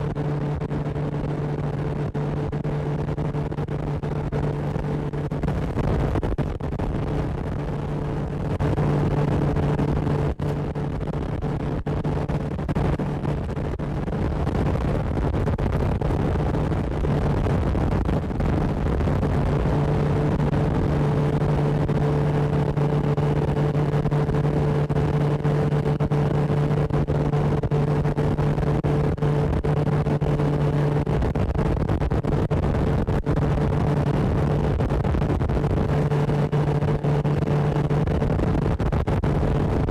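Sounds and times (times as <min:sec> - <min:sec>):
motorboat engine drone: 0:00.0 - 0:39.9
rushing wind: 0:00.0 - 0:39.9
water noise: 0:00.0 - 0:39.9.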